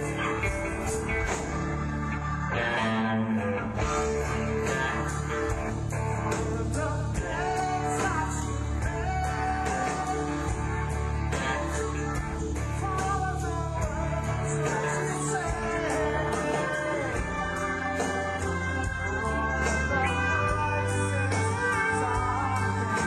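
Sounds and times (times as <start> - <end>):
bass: 0.0 - 23.0
drums: 0.0 - 23.0
electric guitar: 0.0 - 23.0
person singing: 0.0 - 23.0.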